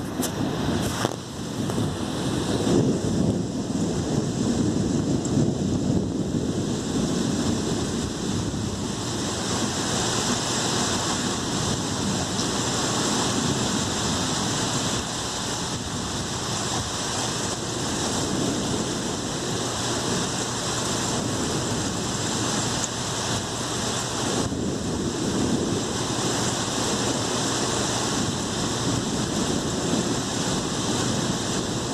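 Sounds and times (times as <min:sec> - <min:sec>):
heavy rain hiss: 0:00.0 - 0:31.9
thunder rumble: 0:00.0 - 0:31.9.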